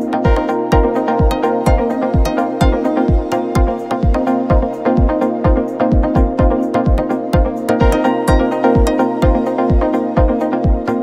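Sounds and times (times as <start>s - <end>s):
kick-drum beat: 0.0s - 11.0s
sustained synth chords: 0.0s - 11.0s.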